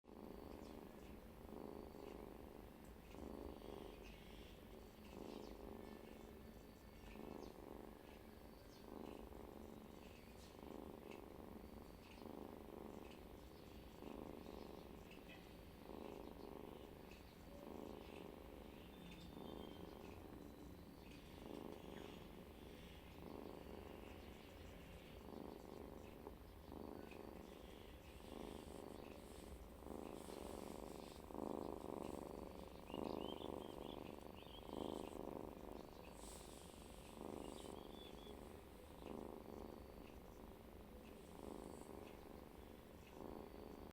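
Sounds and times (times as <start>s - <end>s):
cat snoring: 0.0s - 43.9s.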